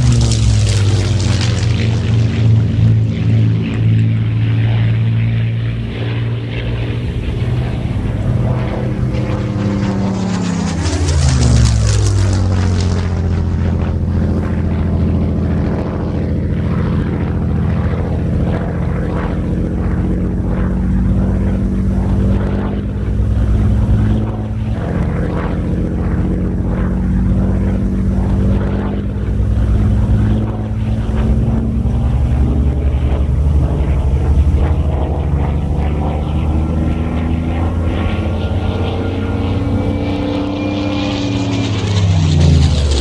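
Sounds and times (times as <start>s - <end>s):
aircraft engine flying overhead: 0.0s - 43.0s.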